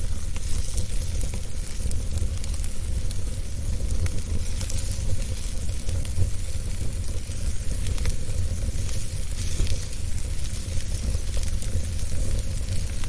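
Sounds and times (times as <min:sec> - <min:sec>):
fire crackles and pops: 0:00.0 - 0:13.0
wood fire hissing and rumbling: 0:00.0 - 0:13.0.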